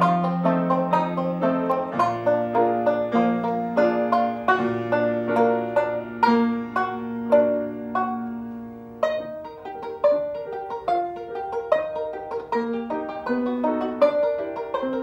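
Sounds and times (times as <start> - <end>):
piano notes: 0.0 - 15.0
plucked banjo melody: 0.0 - 15.0.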